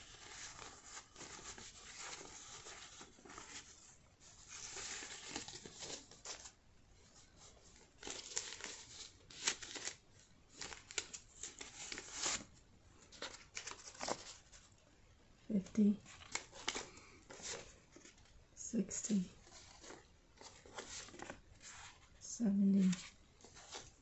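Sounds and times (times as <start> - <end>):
paper bills rustling and crinkling: 0.0 - 6.6, 7.8 - 14.6, 16.0 - 18.3, 19.4 - 24.0.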